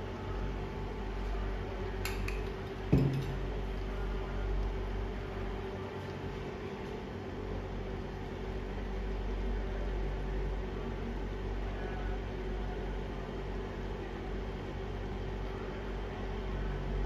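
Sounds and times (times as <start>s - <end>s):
induction cooktop humming: 0.0s - 17.0s.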